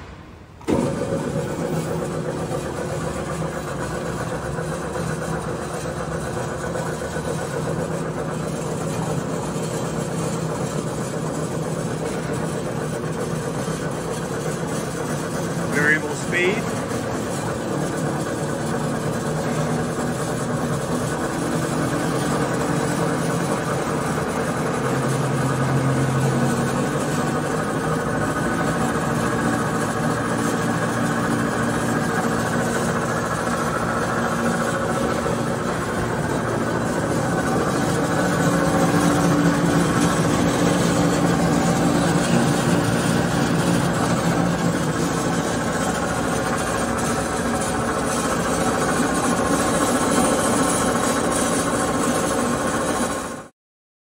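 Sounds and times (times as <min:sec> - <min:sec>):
bandsaw machine hum: 0:00.0 - 0:53.5.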